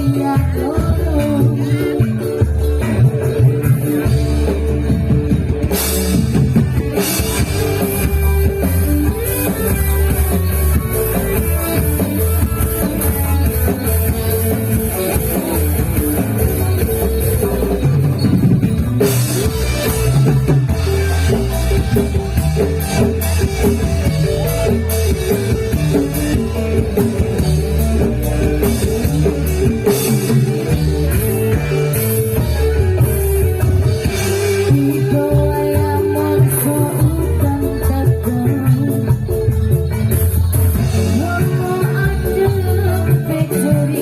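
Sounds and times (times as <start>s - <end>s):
drums keeping steady rhythm: 0.0s - 44.0s.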